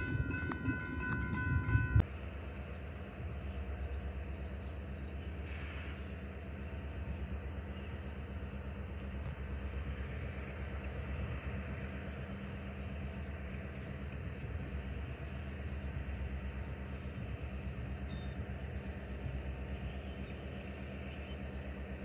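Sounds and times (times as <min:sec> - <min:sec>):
distant diesel locomotive rumble: 0:00.0 - 0:22.0.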